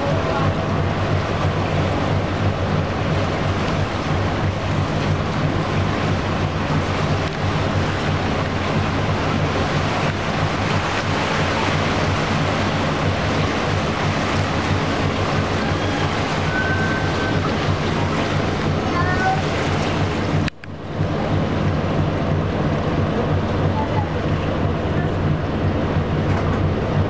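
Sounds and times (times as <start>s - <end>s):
boat engine humming: 0.0s - 27.0s
moving water: 0.0s - 27.0s.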